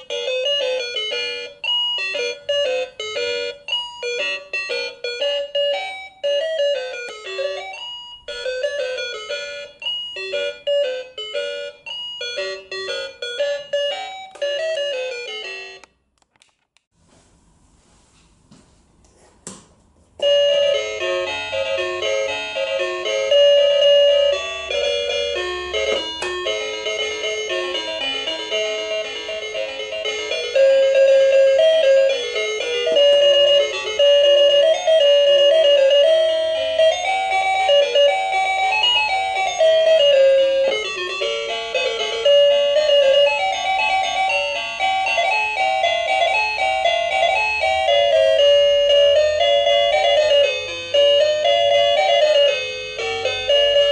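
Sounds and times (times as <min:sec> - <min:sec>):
toy piano chiming melody: 0:00.0 - 0:15.9, 0:20.2 - 0:53.9.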